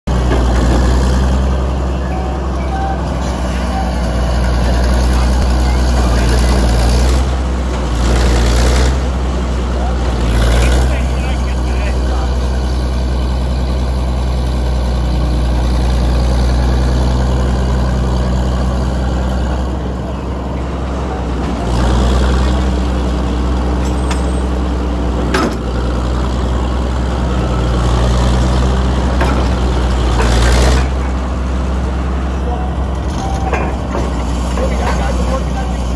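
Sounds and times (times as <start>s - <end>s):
diesel engine of digging shovel: 0.1s - 35.9s.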